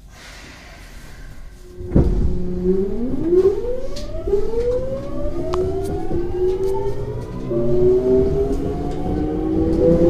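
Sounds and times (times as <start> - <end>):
low rumble of running gear: 1.0 - 9.2
electric train motor whine: 1.5 - 10.0.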